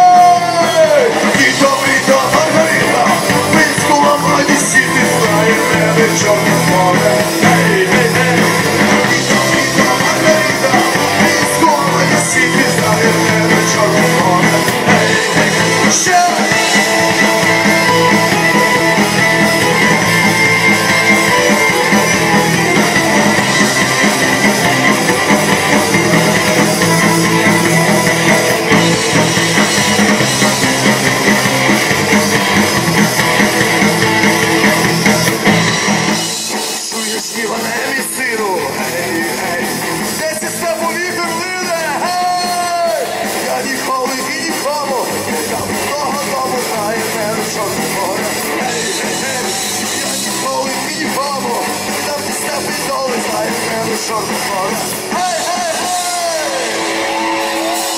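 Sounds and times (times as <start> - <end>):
bass guitar: 0.0 - 57.9
drum kit: 0.0 - 57.9
electric guitars: 0.0 - 57.9.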